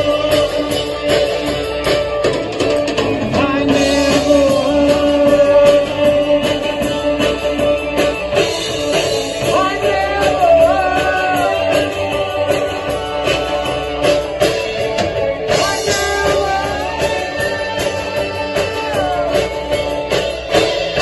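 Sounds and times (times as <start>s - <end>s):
person singing: 0.0s - 1.3s, 3.2s - 8.2s, 9.3s - 14.5s, 15.4s - 21.0s
drum kit: 0.0s - 21.0s
electric guitars: 0.0s - 21.0s.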